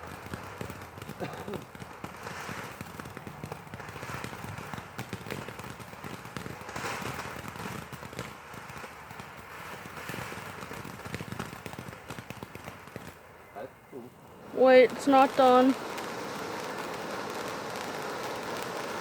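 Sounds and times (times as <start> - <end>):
firework crackling: 0.0 - 19.0
firework hissing: 0.0 - 19.0.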